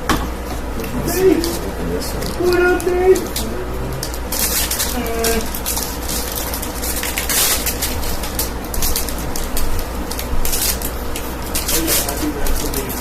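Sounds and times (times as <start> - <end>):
steady low hum: 0.0 - 13.0
cards and packs rustling: 0.8 - 13.0.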